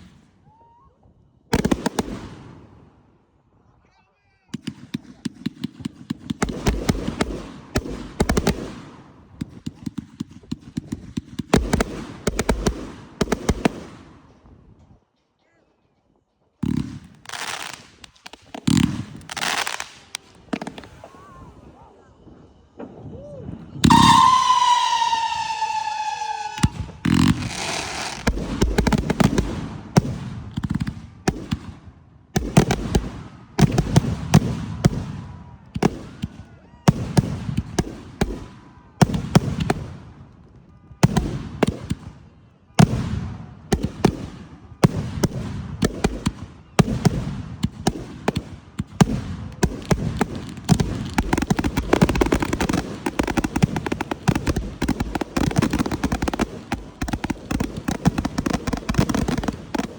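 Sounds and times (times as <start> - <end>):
fireworks bangs and booms: 0.0 - 0.6, 1.5 - 3.0, 4.5 - 15.0, 16.6 - 21.8, 22.4 - 59.9.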